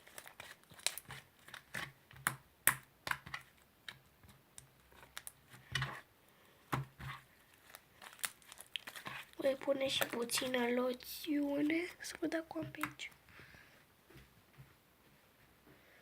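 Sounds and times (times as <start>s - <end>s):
slime kneaded by hand: 0.0s - 13.3s.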